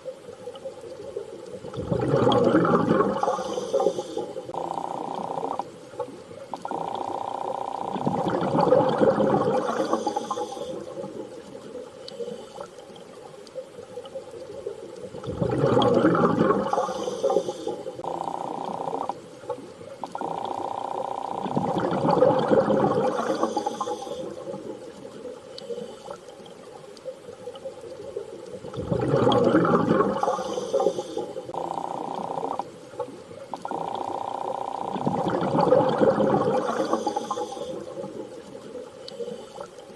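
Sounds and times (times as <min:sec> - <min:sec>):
underwater rushing water: 0:00.0 - 0:39.9.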